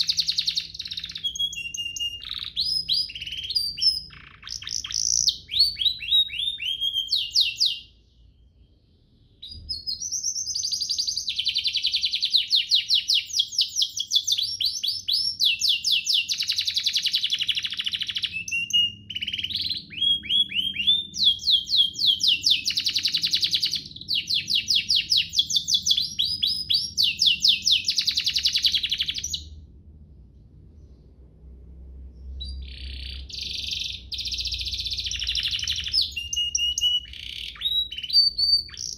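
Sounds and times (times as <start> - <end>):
canary singing trills: 0.0 - 29.6, 32.1 - 38.9.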